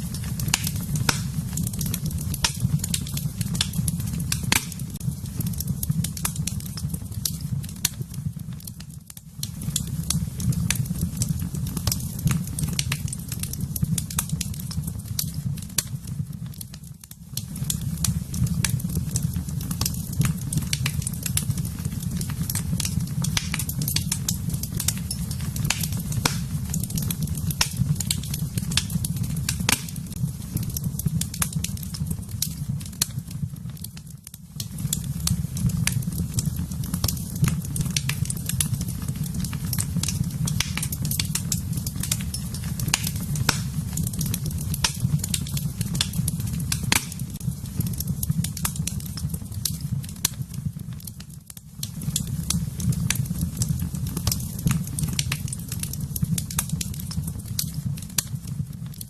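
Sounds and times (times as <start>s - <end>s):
fire crackling in fireplace: 0.0s - 59.0s.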